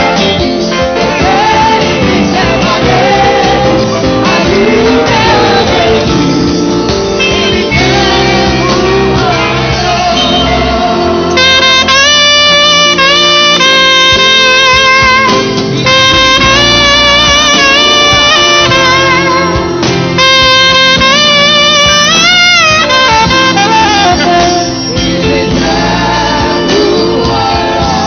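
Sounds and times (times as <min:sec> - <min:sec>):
group singing with band: 0:00.0 - 0:13.4, 0:15.2 - 0:20.2, 0:23.2 - 0:28.0
solo saxophone melody: 0:00.0 - 0:27.9.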